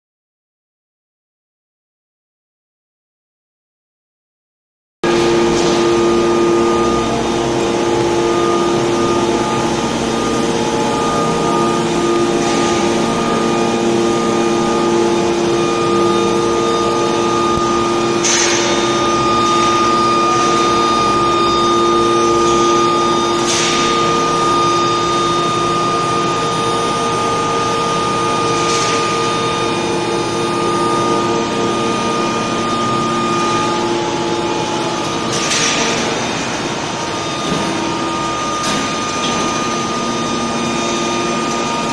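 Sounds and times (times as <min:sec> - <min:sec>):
machine hum with held tones: 0:05.0 - 0:41.9.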